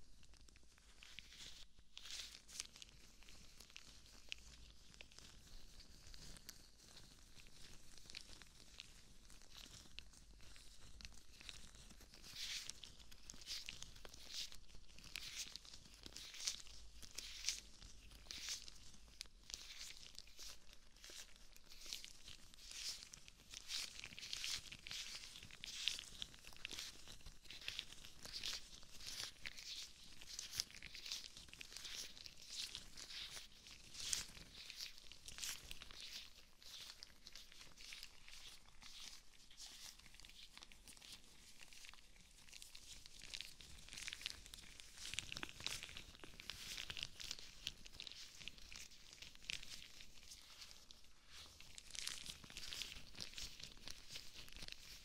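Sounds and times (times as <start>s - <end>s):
rubber gloves rustling: 0.0s - 55.0s.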